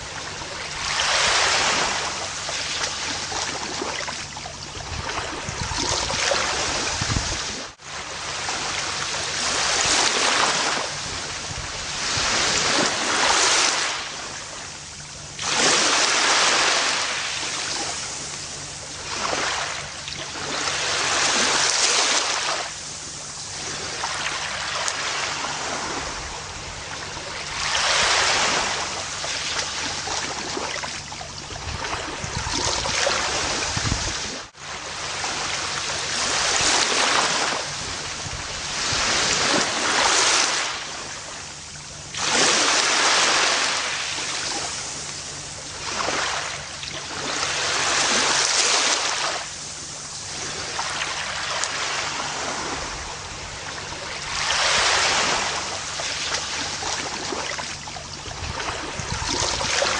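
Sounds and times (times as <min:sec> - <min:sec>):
gentle waves washing onto beach: 0:00.0 - 0:59.9.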